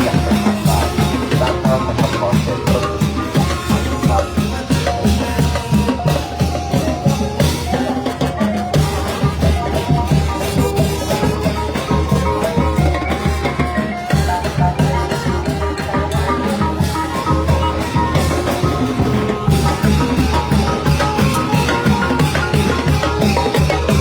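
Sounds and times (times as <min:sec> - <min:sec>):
brass band playing: 0:00.0 - 0:24.0
drums keeping a beat: 0:00.0 - 0:24.0.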